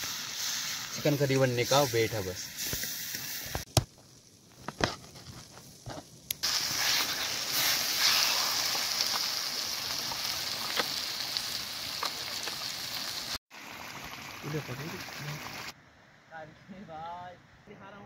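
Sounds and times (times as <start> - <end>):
curry sizzling in a pan: 0.0 - 15.7.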